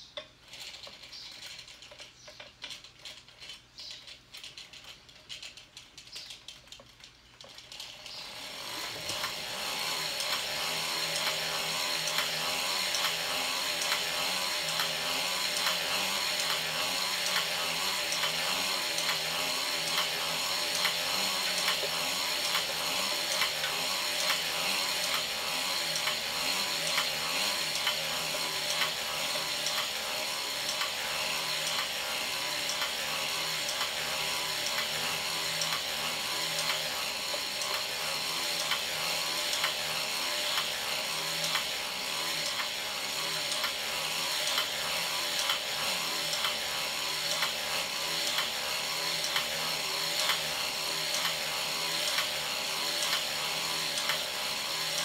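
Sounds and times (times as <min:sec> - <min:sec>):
scattered clicks: 0:00.0 - 0:55.0
knitting machine needles clattering: 0:00.1 - 0:55.0.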